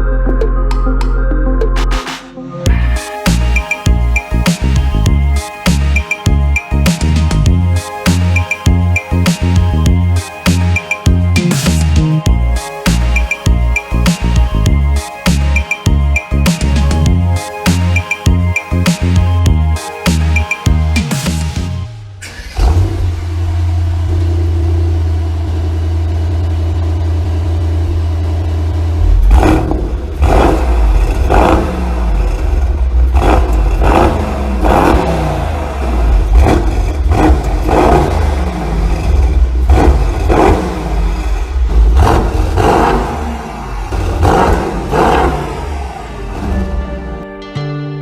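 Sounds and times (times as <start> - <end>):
car engine revving: 2.0 - 47.2
car engine starting and idling: 2.7 - 47.2.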